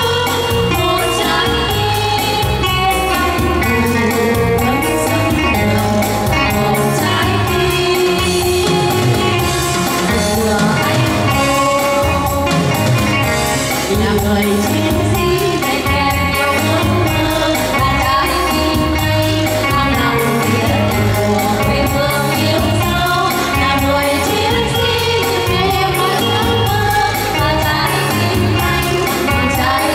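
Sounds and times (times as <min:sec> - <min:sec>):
instrumental accompaniment with beat: 0:00.0 - 0:29.9
women singing: 0:00.0 - 0:29.9.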